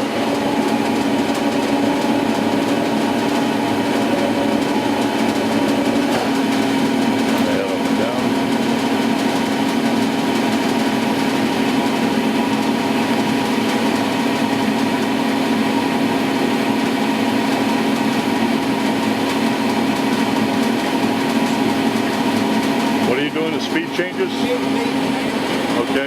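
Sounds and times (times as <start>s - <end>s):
surface grinder humming: 0.0s - 26.0s.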